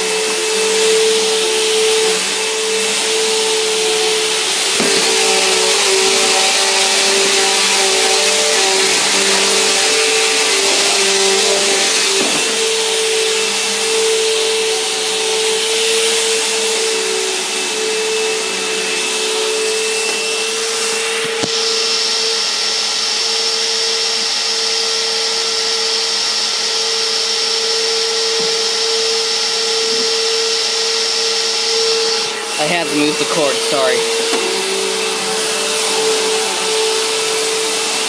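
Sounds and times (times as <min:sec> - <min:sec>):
thin high whine: 0:00.0 - 0:38.0
vacuum cleaner running: 0:00.0 - 0:38.0.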